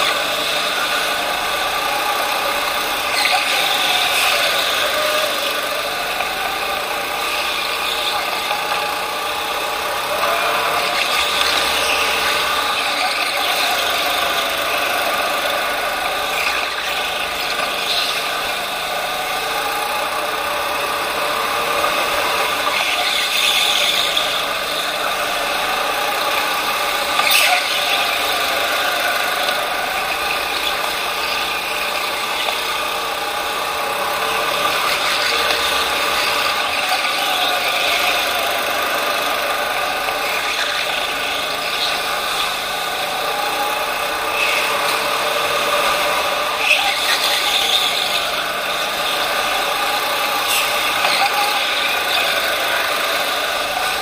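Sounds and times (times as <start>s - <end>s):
go-kart engine drone: 0.0s - 54.0s
kart rattling: 0.0s - 54.0s.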